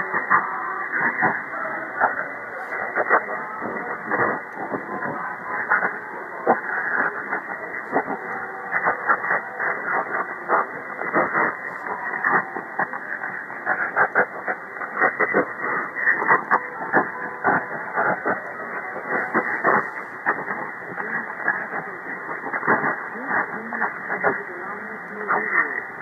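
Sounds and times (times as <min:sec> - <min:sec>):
muffled radio broadcast: 0:00.0 - 0:26.0
radio hiss: 0:00.0 - 0:26.0
static crackles: 0:00.0 - 0:26.0.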